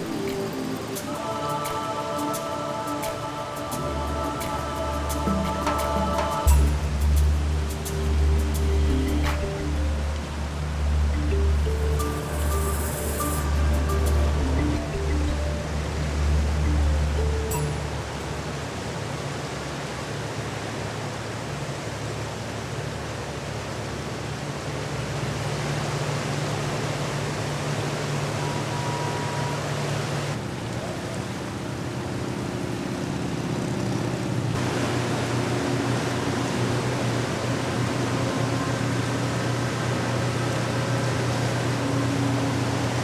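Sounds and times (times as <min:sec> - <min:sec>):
diesel engines droning: 0:00.0 - 0:43.0
wind and water hiss: 0:00.0 - 0:43.0.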